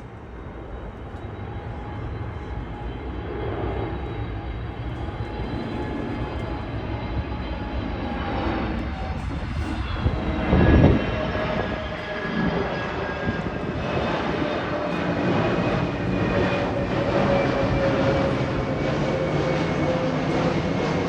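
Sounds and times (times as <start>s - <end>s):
jet engine rumble and whine: 0.0s - 21.0s.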